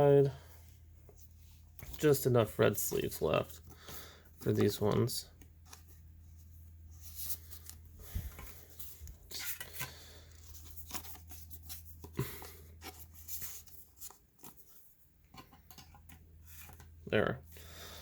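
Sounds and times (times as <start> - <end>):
cards rustling against plastic sleeves: 0.6 - 15.0, 15.7 - 17.0.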